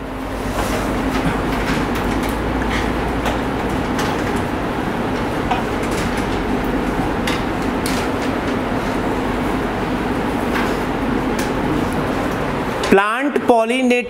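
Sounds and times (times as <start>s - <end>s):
room noise with steady hum: 0.0s - 14.0s.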